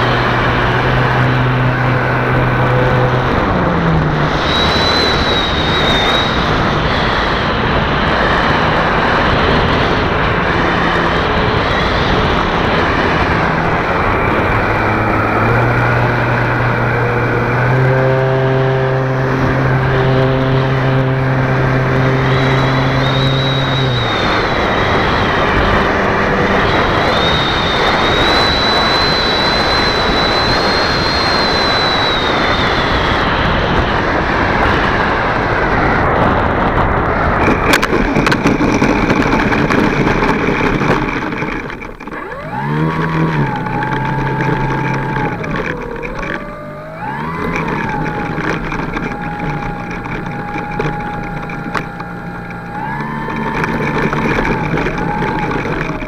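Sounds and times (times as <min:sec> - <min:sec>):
model plane motor and propeller: 0:00.0 - 0:56.0
rushing wind noise: 0:00.0 - 0:56.0.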